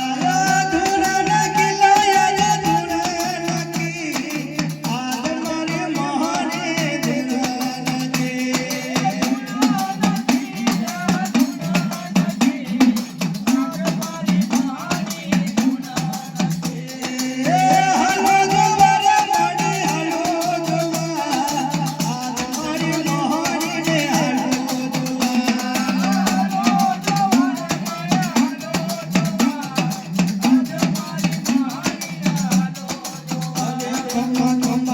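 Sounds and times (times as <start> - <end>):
fast drum beat: 0.0 - 34.9
shaker rattle: 0.0 - 34.9.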